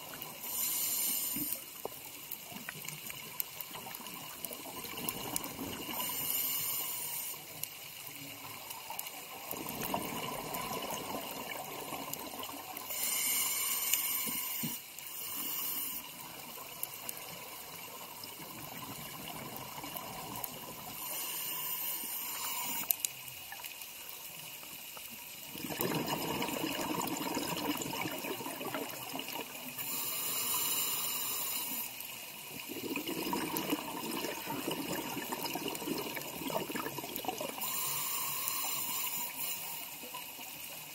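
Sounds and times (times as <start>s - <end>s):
regulator bubbles hissing: 0.0s - 7.7s, 8.5s - 23.0s, 25.4s - 40.8s.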